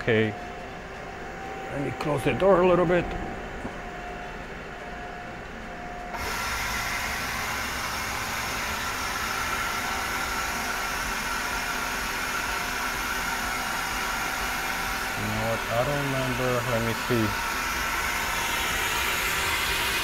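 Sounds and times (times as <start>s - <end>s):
lathe spindle whine: 0.0s - 20.0s.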